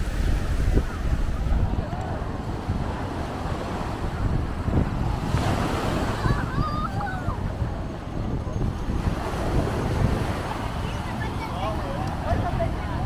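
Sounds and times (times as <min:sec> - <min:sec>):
ocean surf washing onto beach: 0:00.0 - 0:13.0
wind rumbling on microphone: 0:00.0 - 0:13.0.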